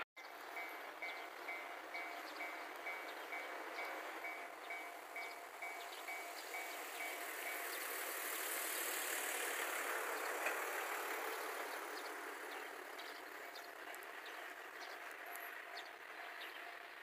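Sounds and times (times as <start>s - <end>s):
distant train passing: 0.2s - 17.0s.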